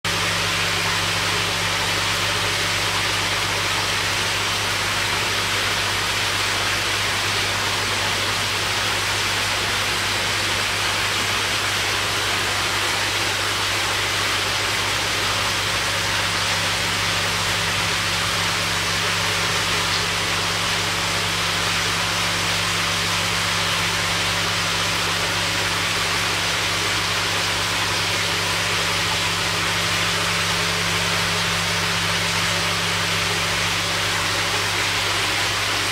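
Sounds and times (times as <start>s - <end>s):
low electrical hum: 0.0s - 35.9s
running water hiss: 0.1s - 35.9s.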